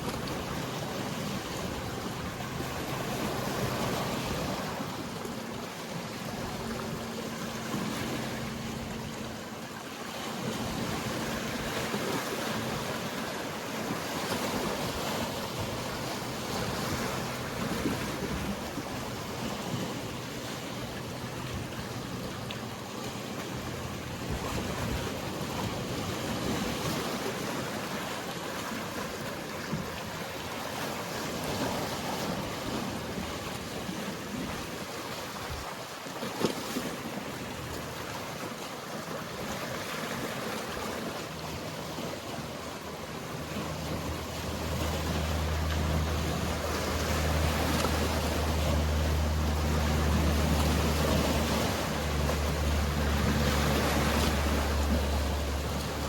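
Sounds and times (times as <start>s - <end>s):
boat engine humming: 0.0s - 56.0s
sea waves washing: 0.0s - 56.0s.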